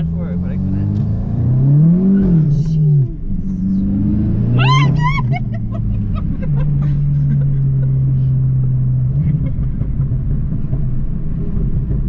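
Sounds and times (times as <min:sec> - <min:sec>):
car engine droning: 0:00.0 - 0:12.0
road rumble: 0:00.0 - 0:12.0.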